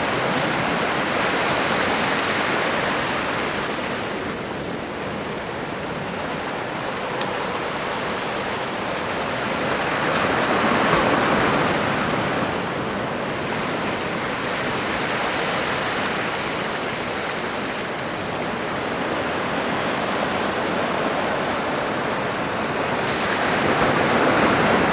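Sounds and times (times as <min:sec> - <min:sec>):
surf breaking and washing ashore: 0:00.0 - 0:24.9.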